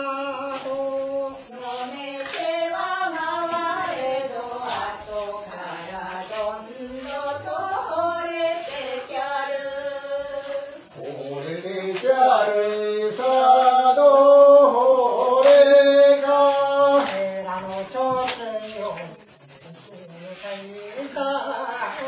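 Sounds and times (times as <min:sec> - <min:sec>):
person singing folk song: 0:00.0 - 0:22.0.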